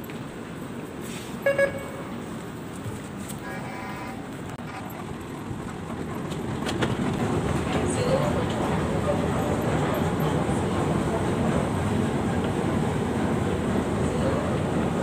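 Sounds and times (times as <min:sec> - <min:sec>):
metro station hum: 0:00.0 - 0:15.0.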